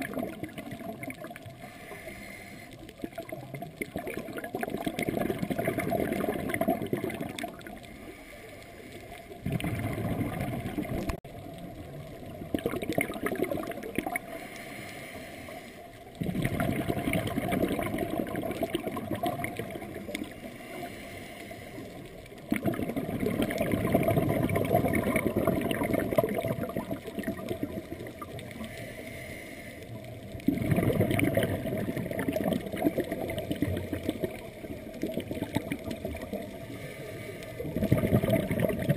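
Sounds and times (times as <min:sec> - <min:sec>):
underwater bubbles gurgling: 0:00.0 - 0:38.9.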